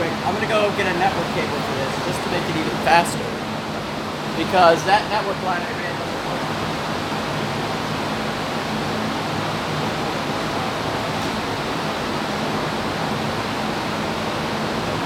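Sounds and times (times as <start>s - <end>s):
cooling fans whooshing: 0.0s - 15.0s.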